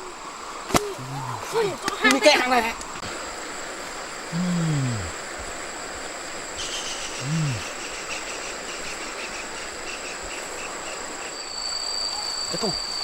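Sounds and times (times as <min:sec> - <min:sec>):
crickets chirping rhythmically: 0:00.0 - 0:13.0
insects whining: 0:00.0 - 0:13.0
low swooping calls: 0:00.0 - 0:13.0.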